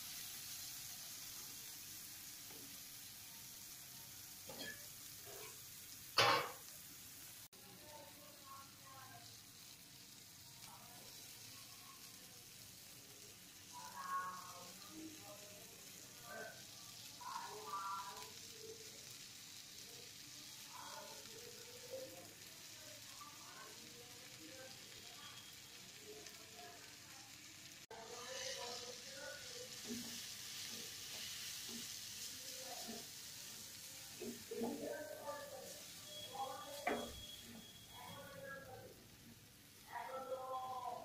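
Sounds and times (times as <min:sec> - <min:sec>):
oil sizzling in a pan: 0:00.0 - 0:41.0.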